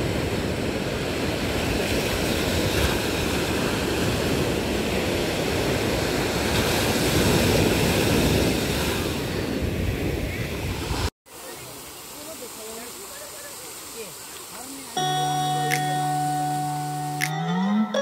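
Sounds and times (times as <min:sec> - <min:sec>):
ocean waves breaking: 0:00.0 - 0:17.4.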